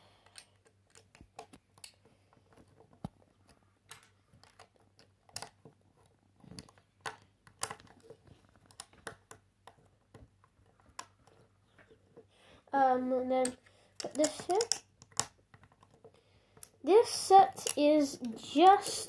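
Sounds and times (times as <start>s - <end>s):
plastic bricks clicking and snapping: 0.2s - 5.7s, 6.4s - 12.0s, 13.4s - 16.9s, 17.5s - 19.0s.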